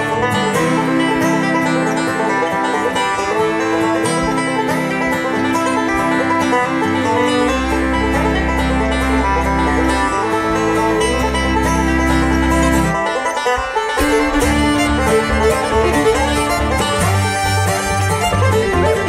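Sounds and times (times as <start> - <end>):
acoustic guitar: 0.0 - 19.0
fiddle: 0.0 - 19.0
rapid banjo picking: 0.0 - 19.0
upright bass: 0.0 - 19.0.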